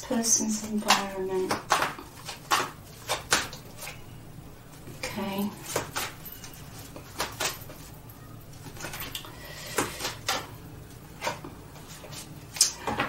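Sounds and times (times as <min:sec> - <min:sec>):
cards being shuffled: 0:00.8 - 0:04.0, 0:05.6 - 0:13.0.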